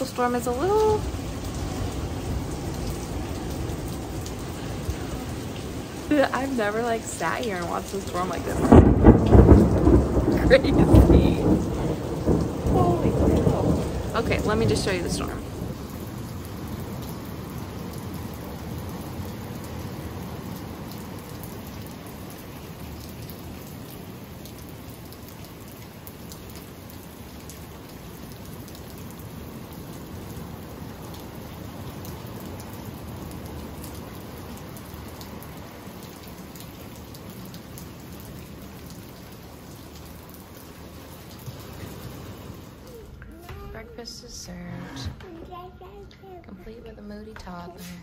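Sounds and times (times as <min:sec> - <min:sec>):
rain pouring down: 0:00.0 - 0:48.0.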